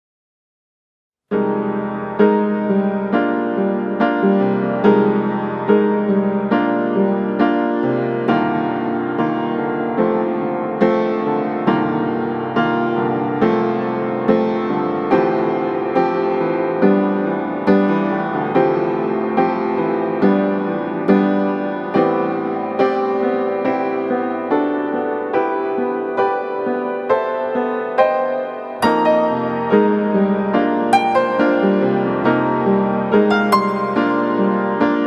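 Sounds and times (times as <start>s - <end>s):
soft piano music: 1.3s - 35.0s.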